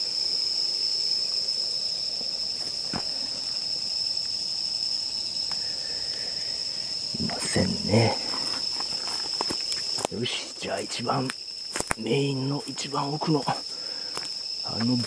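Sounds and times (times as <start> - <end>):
insects trilling: 0.0 - 15.0
woodland background: 0.0 - 15.0.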